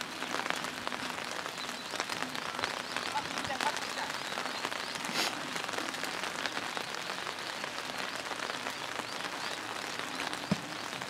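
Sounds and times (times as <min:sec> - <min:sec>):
light rain patter: 0:00.0 - 0:11.0.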